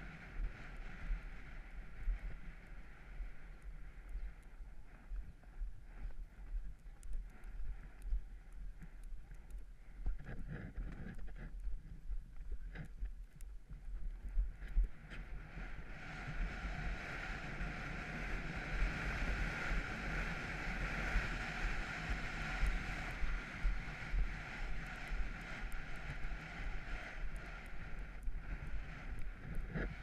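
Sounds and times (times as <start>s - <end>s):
wind buffeting a microphone: 0.0s - 30.0s.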